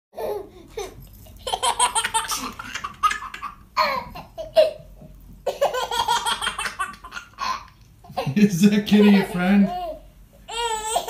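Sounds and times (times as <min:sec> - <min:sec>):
baby laughing: 0:00.2 - 0:11.0.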